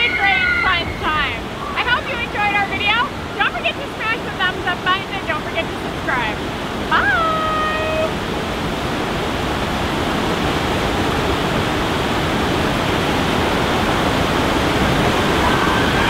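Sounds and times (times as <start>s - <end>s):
water rushing down chute: 0.0s - 16.0s.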